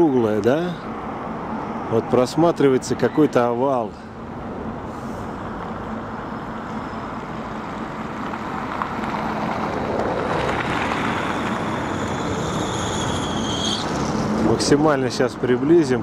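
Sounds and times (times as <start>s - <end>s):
road traffic rush: 0.0s - 16.0s.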